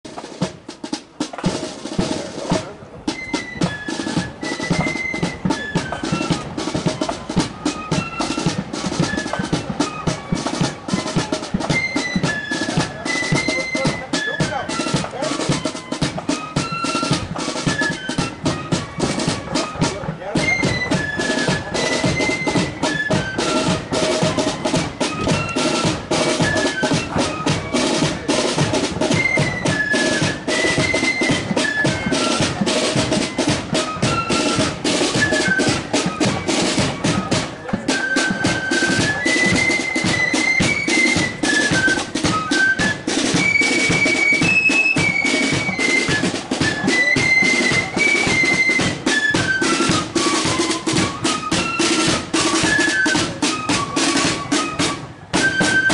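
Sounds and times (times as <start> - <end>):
snare drumming: 0.0 - 55.9
flutes playing melody: 0.1 - 55.9.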